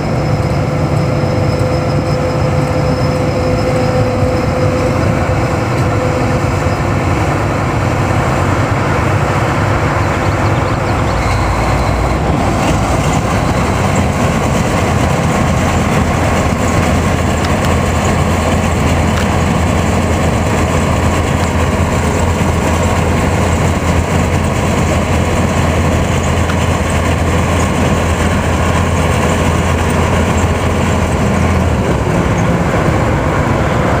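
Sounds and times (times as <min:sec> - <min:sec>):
combine diesel engine idling: 0:00.0 - 0:34.0.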